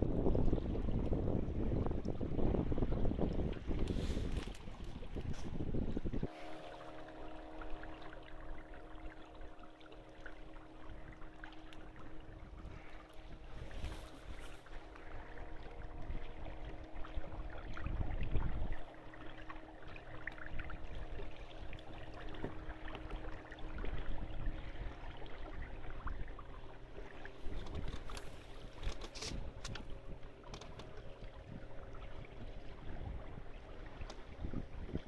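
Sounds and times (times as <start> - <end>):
water rushing along boat hull: 0.0 - 35.0
wind buffeting microphone: 0.0 - 35.0.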